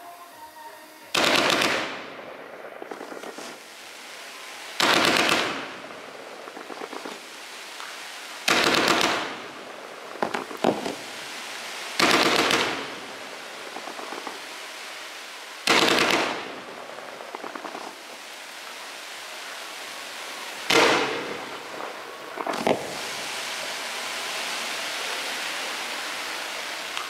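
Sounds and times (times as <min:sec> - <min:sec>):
faint firework crackles: 0:00.0 - 0:27.0
firework cake volleys: 0:00.0 - 0:27.0.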